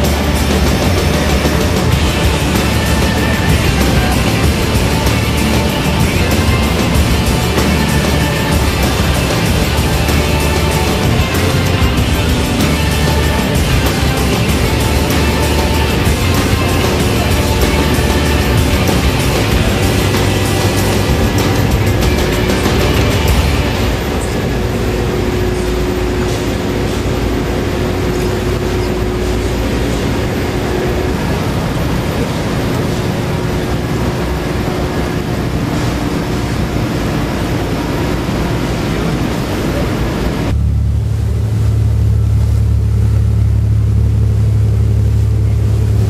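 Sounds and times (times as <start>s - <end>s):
boat engine running: 0.0s - 46.0s.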